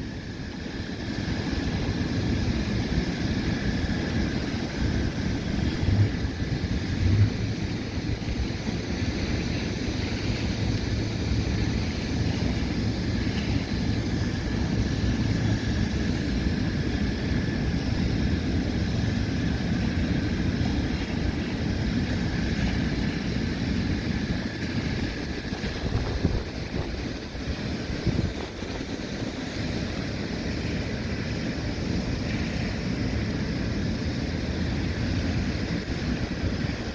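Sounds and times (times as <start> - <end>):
wind buffeting microphone: 0.0 - 36.9.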